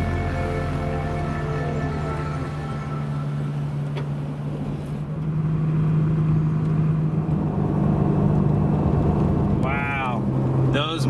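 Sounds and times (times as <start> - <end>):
road rumble: 0.0 - 11.0
truck engine drone: 0.0 - 11.0.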